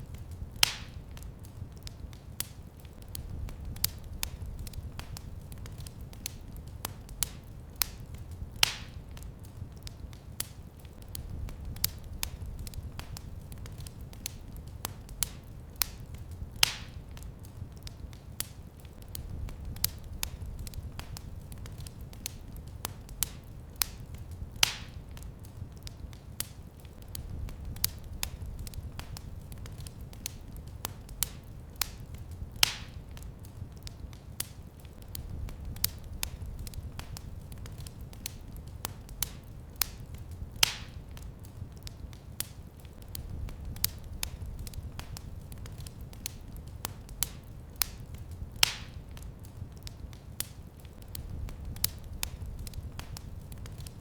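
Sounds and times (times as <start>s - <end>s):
low rumble of flames: 0.0s - 54.0s
wood fire crackling: 0.0s - 54.0s.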